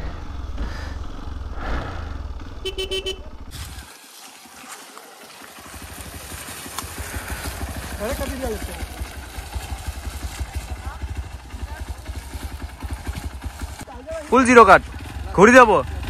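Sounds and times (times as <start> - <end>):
motorcycle engine pulsing: 0.0 - 16.0.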